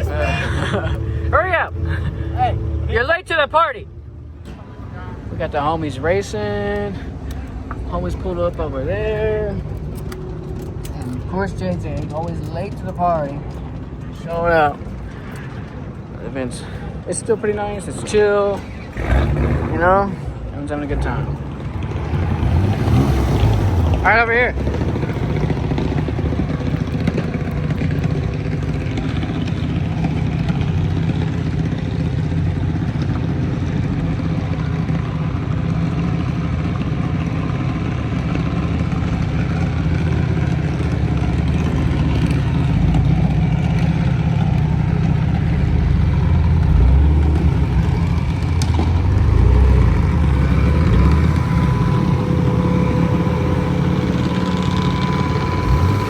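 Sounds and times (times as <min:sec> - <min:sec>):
vehicle engine rumbling: 0:00.0 - 0:56.0.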